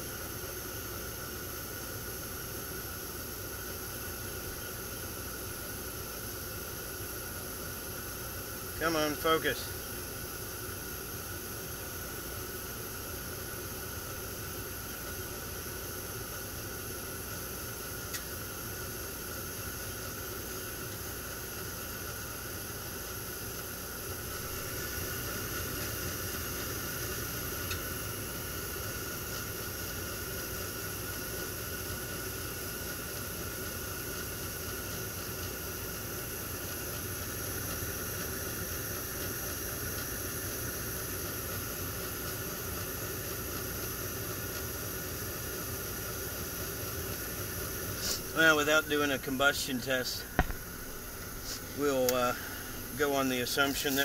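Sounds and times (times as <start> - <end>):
burners and fan hissing: 0.0 - 54.0.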